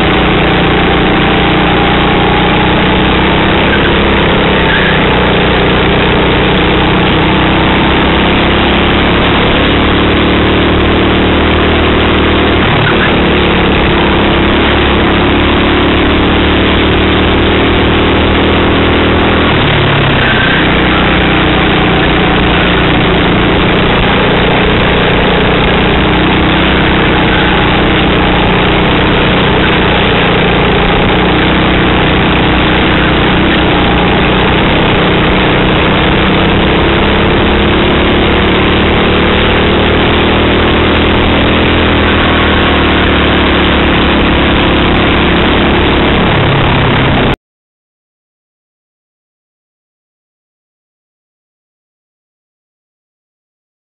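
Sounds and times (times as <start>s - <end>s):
racing kart engine: 0.0s - 47.4s.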